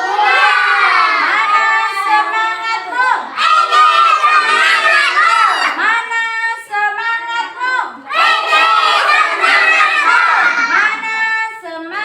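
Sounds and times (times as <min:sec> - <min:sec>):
children talking and shouting: 0:00.0 - 0:06.0, 0:07.4 - 0:12.0.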